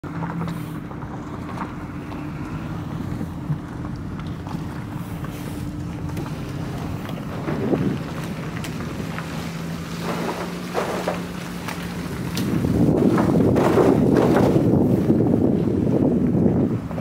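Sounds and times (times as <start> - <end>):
low engine hum: 0.0 - 17.0
wind buffeting microphone: 0.8 - 17.0.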